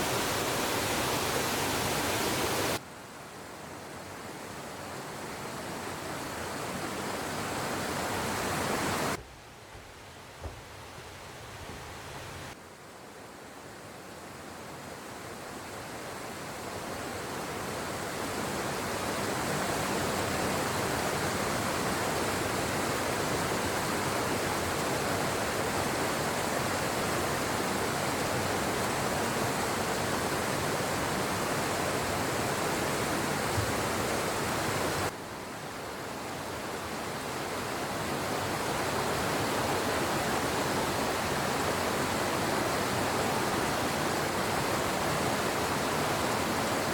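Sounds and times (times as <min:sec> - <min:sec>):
flowing water rushing: 0:00.0 - 0:02.8, 0:04.0 - 0:12.6, 0:15.4 - 0:46.9.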